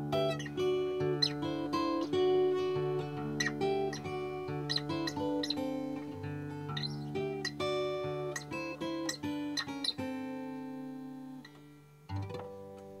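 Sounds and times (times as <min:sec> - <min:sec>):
acoustic guitar picking and chords: 0:00.0 - 0:13.0.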